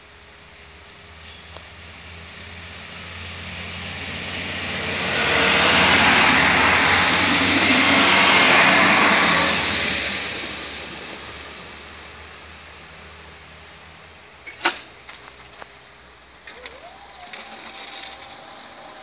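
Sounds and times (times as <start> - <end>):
train wheels rumbling on rails: 0.4 - 13.4, 14.4 - 19.0.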